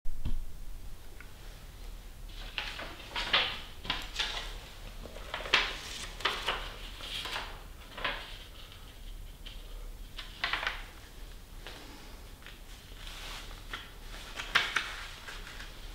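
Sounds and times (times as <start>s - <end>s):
surgical mask crinkling: 1.3s - 15.9s.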